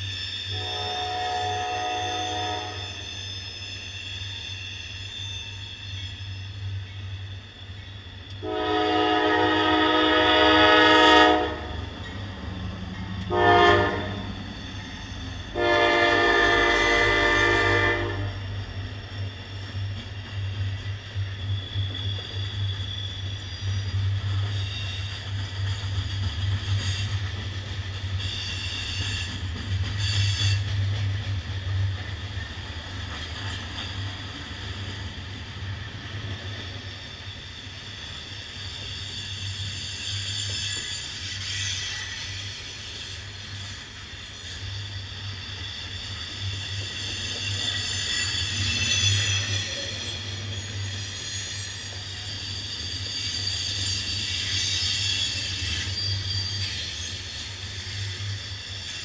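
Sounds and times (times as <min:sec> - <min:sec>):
high-pitched wheel squeals: 0:00.0 - 0:27.4, 0:28.1 - 0:30.9, 0:36.2 - 0:59.0
freight train rumbling past: 0:00.0 - 0:59.0.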